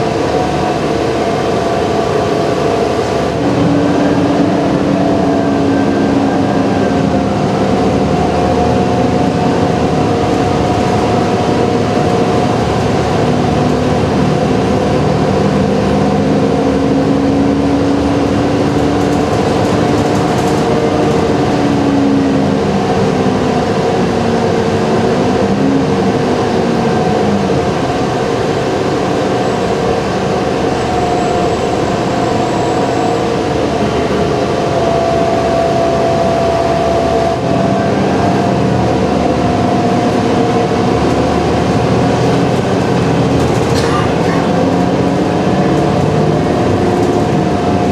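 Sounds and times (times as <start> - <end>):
bus engine and road noise: 0.0 - 47.9.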